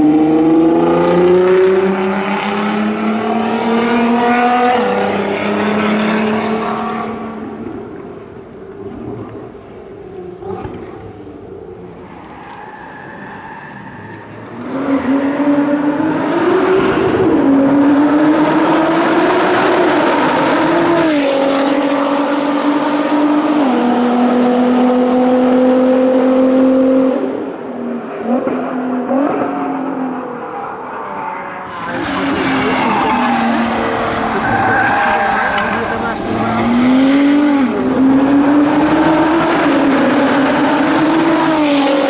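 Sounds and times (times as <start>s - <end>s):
loud car engine accelerating: 0.0s - 11.2s, 14.2s - 42.0s.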